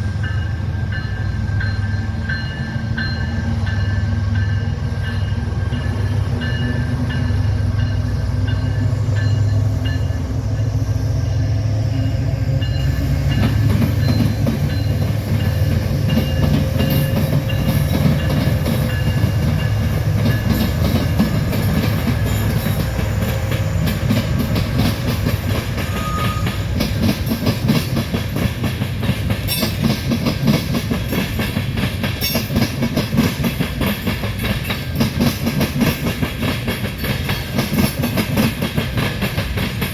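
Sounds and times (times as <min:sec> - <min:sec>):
freight train rumbling past: 0:00.0 - 0:39.9
train wheels clacking on rail joints: 0:00.2 - 0:39.9.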